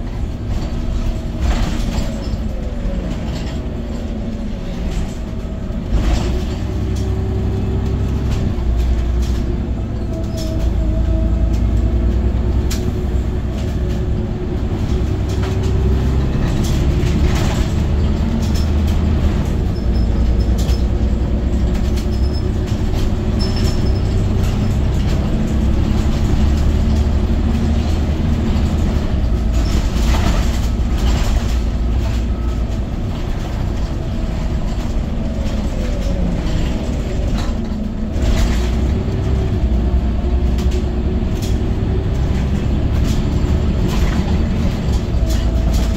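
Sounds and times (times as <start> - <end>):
bus engine rumble with whine: 0.0 - 45.9
clicks and knocks from bus body: 0.0 - 45.9.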